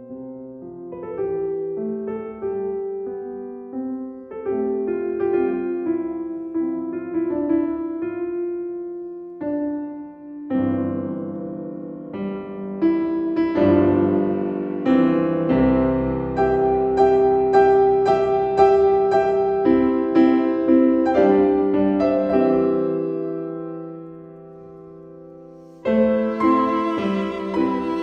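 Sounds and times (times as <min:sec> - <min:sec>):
grand piano playing: 0:00.0 - 0:28.0.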